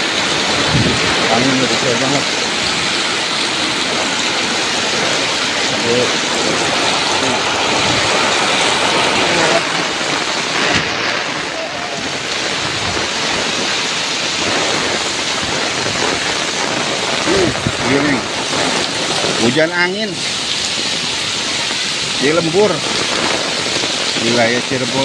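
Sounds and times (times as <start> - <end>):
heavy rain in strong wind: 0.0 - 25.0.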